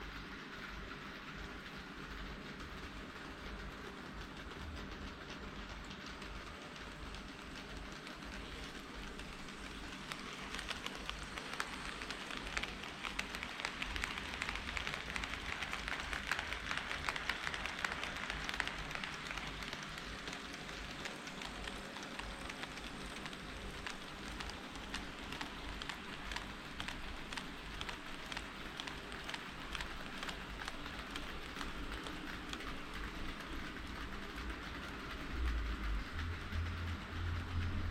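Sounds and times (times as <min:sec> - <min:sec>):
model train wheels clicking on rails: 0:00.0 - 0:37.9.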